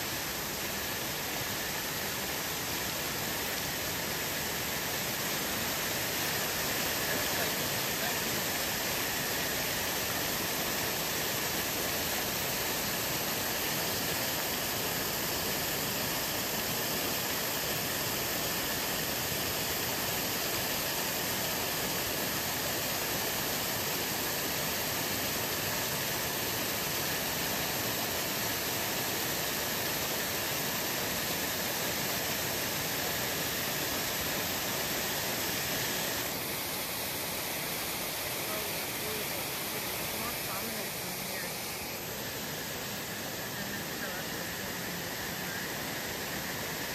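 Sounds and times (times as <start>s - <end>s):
fountain water splashing into pool: 0.0s - 46.9s.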